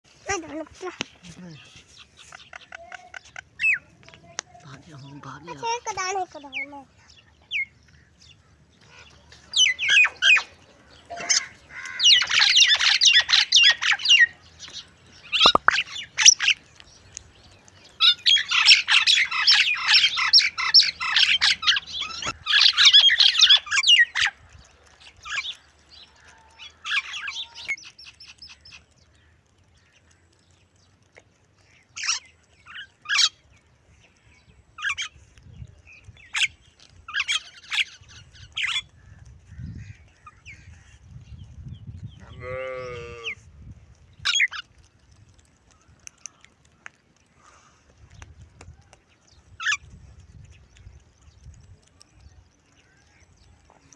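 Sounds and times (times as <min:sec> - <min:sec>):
birds chattering and squawking: 0:00.1 - 0:53.9.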